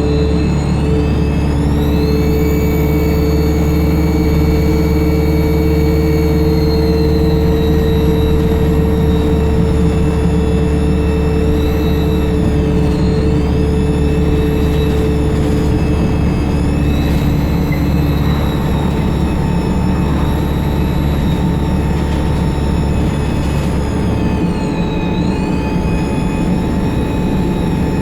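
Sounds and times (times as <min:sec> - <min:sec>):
diesel bus engine drone: 0:00.0 - 0:28.0
turbocharger whistle: 0:00.0 - 0:28.0.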